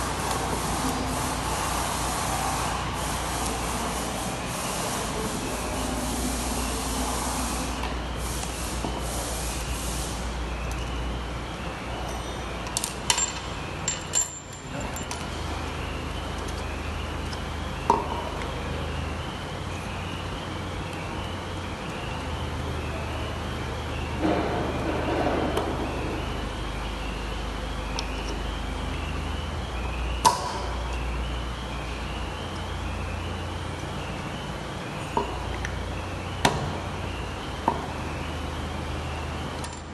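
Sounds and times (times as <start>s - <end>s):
hissing machinery with low hum: 0.0s - 39.9s.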